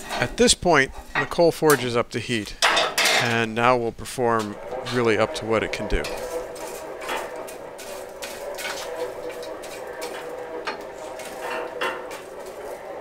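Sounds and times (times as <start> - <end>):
forge fire crackling: 0.0 - 13.0
steady hum: 0.0 - 13.0.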